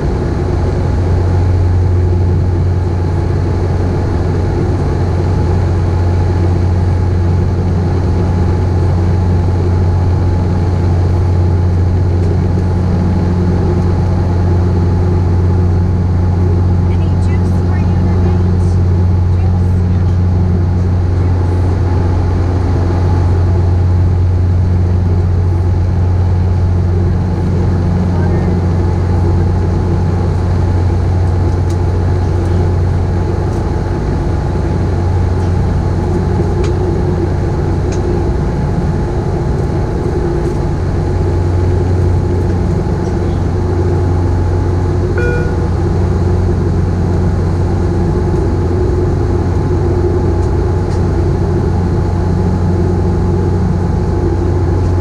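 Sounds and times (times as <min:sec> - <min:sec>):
propeller drone in aircraft cabin: 0:00.0 - 0:55.0.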